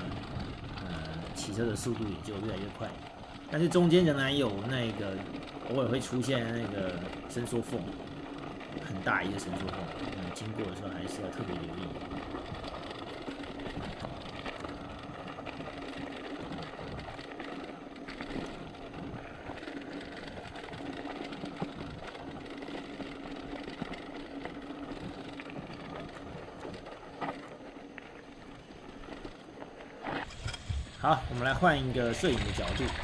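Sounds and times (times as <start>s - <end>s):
bike tyres rolling on gravel: 0.0s - 33.0s.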